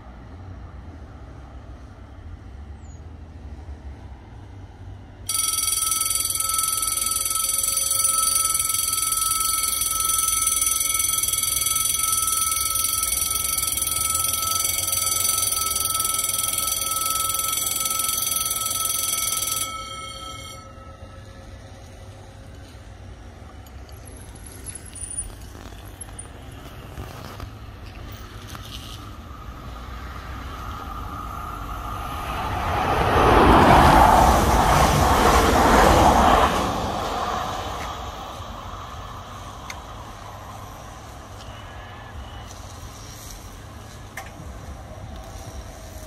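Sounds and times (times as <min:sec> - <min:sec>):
level crossing warning bells: 0:05.2 - 0:46.0.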